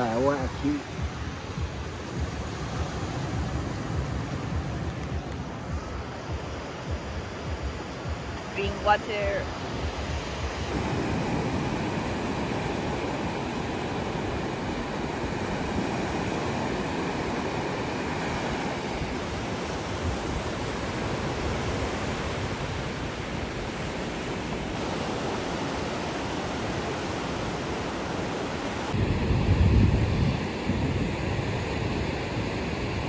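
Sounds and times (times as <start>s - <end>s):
sea waves breaking on beach: 0.0s - 33.0s.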